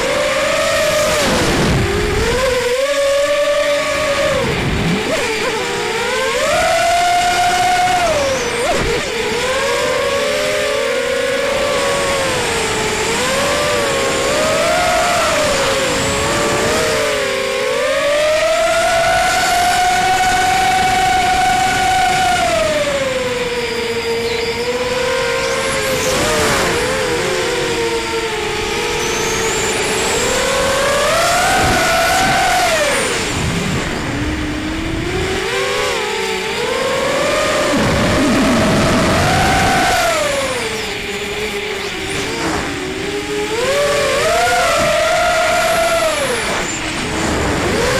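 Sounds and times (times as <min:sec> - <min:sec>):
quadcopter motors whining: 0:00.0 - 0:47.9
rush of noise: 0:00.0 - 0:47.9.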